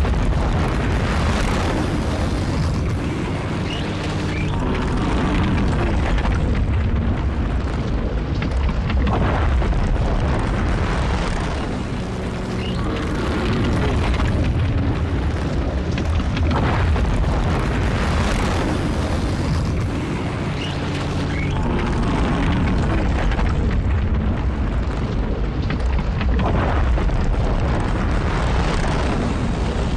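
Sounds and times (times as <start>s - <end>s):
deep rumbling: 0.0s - 29.9s.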